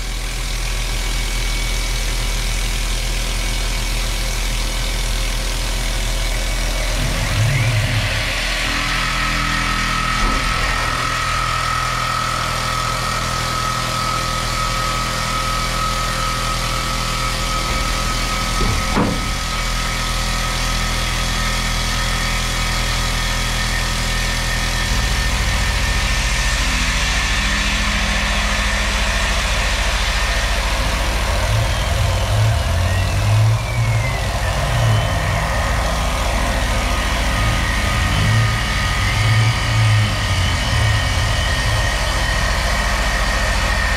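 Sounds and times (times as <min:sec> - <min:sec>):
low machine pulsing: 0:00.0 - 0:43.9
milling machine spindle whine: 0:00.0 - 0:43.9.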